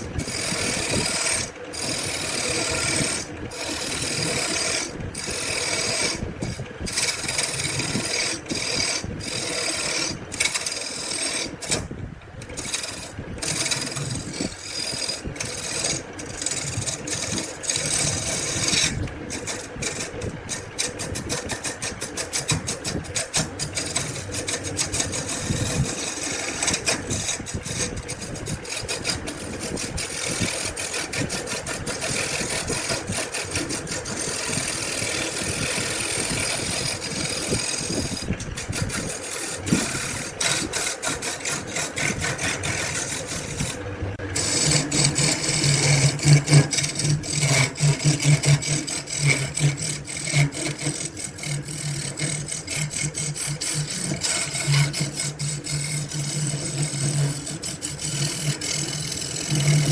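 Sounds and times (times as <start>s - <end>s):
motorised tool working wood: 0.0s - 59.9s.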